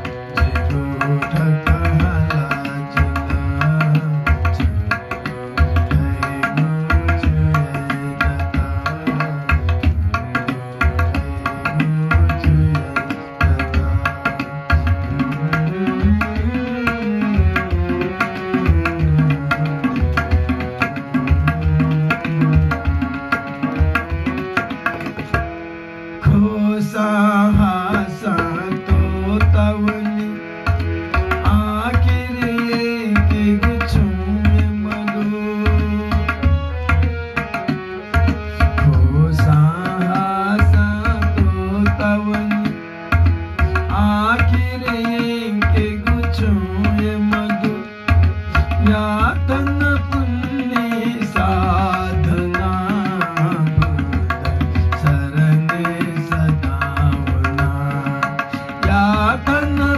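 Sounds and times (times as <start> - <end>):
harmonium chords: 0.0 - 59.9
tabla drumming: 0.0 - 59.9.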